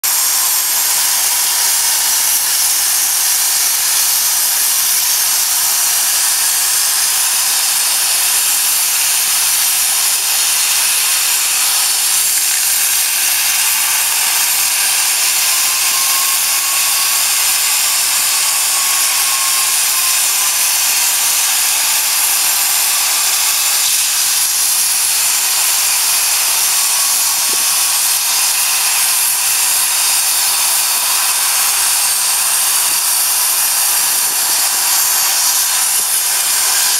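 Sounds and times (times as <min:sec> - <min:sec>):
cutting torch hissing: 0:00.0 - 0:36.9.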